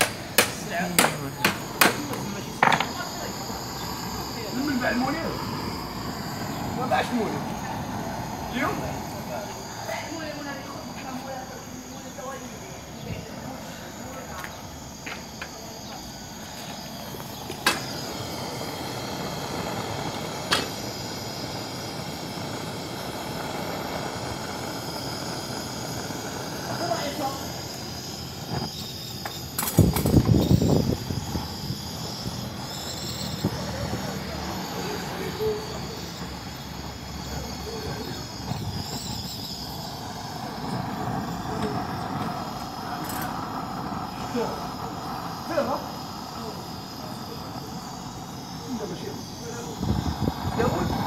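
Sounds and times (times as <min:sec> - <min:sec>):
gas torch flame hissing: 0:00.0 - 0:51.0.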